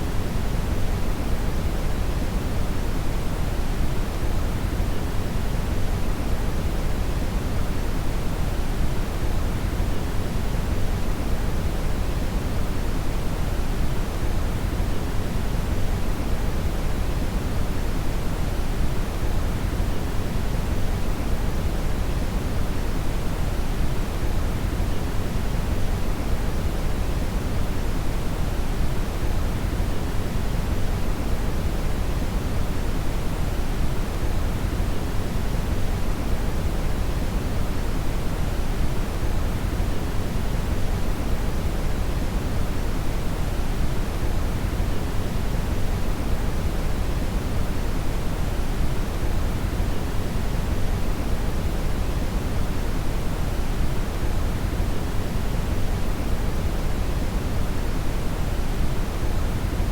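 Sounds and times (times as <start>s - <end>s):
brown noise hiss and rumble: 0.0s - 59.9s.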